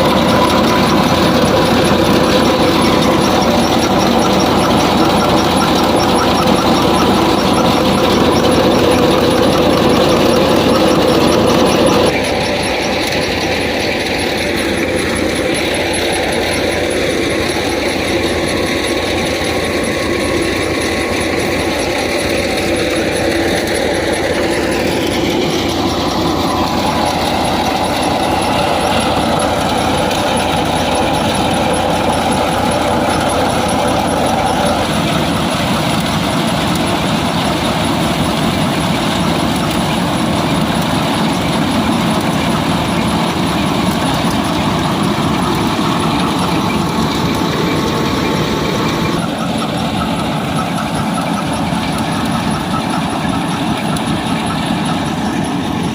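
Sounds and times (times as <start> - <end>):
thresher machinery noise: 0.0 - 55.9
tractor diesel engine running: 0.0 - 55.9.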